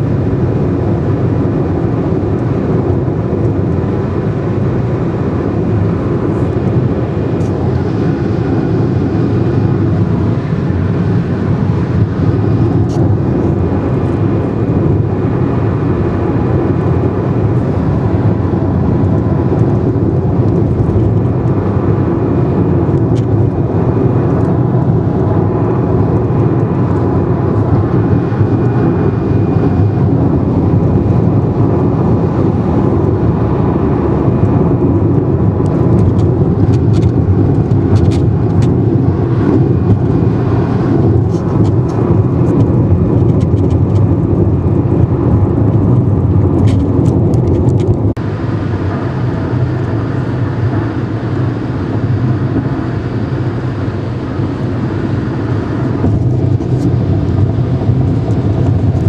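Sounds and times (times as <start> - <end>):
car engine: 0.0 - 59.0
wind noise: 0.0 - 59.0.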